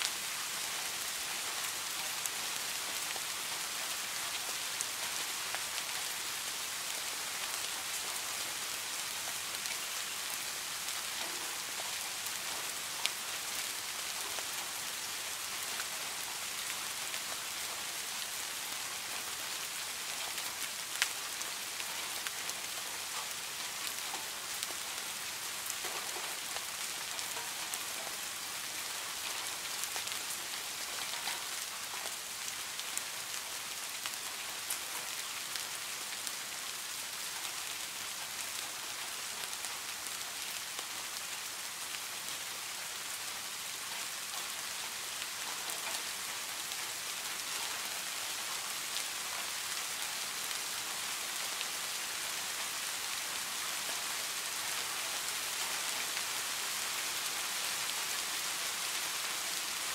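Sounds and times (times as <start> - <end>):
rain falling on pond water: 0.0 - 59.9.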